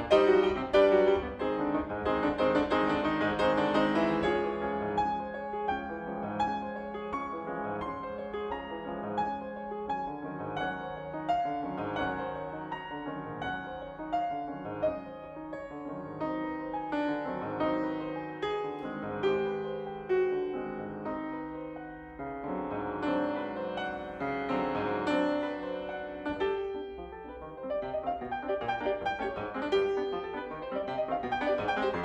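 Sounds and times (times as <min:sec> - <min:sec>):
classical piano solo: 0:00.0 - 0:32.0.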